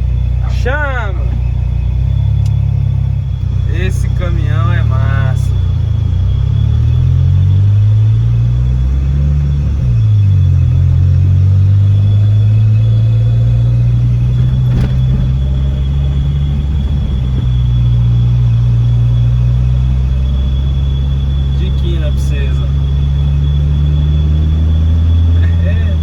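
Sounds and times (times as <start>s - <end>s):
deep bass from car stereo: 0.0s - 26.0s.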